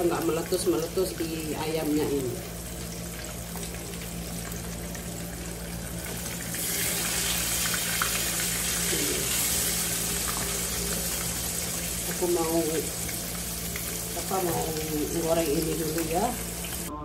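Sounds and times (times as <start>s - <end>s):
chicken frying in oil: 0.0s - 16.9s.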